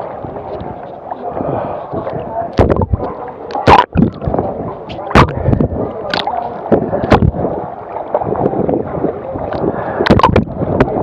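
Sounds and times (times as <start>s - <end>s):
sea water sloshing and gurgling: 0.0s - 11.0s.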